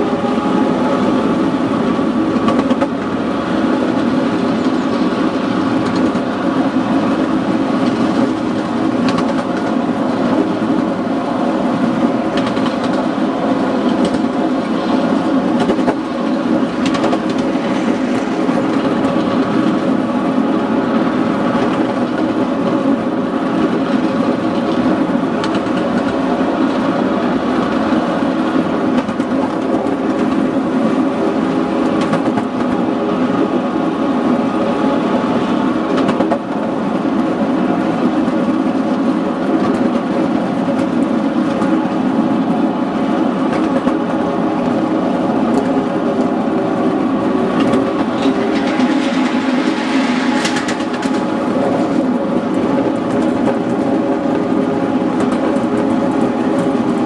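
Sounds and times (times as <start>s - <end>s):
miniature locomotive droning: 0.0s - 57.0s.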